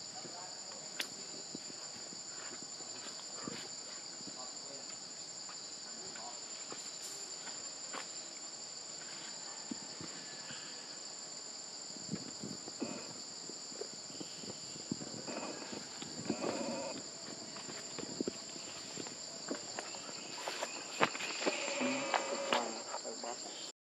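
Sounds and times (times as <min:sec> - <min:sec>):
forest insects droning: 0:00.0 - 0:23.7.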